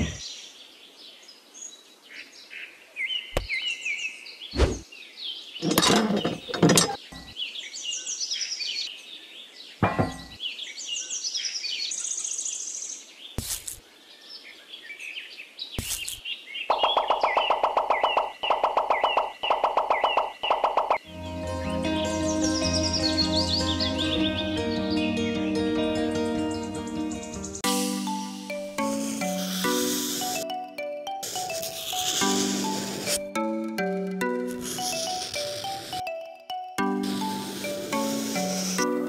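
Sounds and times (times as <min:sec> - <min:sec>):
birds chirping: 0:00.0 - 0:13.3, 0:13.9 - 0:34.1.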